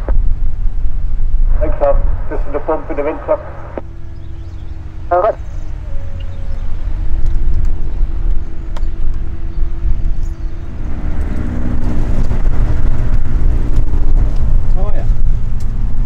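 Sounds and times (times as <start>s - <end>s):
aircraft engine and propeller running: 0.0s - 16.0s.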